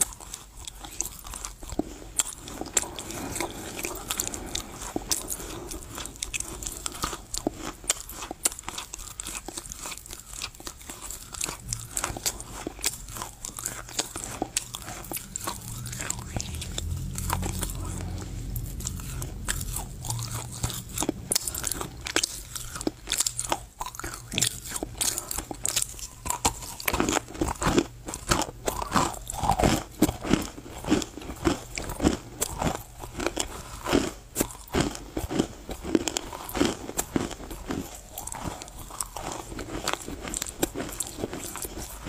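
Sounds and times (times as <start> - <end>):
gritty crunching and chewing: 0.0 - 42.0.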